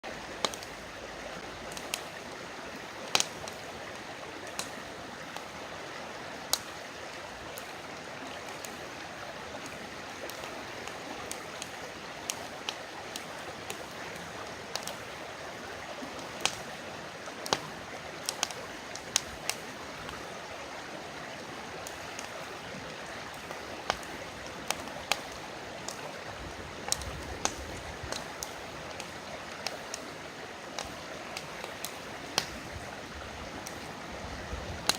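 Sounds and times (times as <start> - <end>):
campfire crackling and popping: 0.0 - 34.9
river flowing: 0.0 - 34.9.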